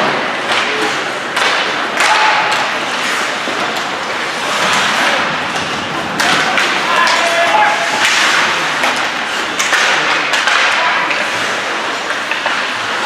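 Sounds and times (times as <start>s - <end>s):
crowd and play noise: 0.0s - 13.0s
hockey sticks and puck knocks: 0.0s - 13.0s.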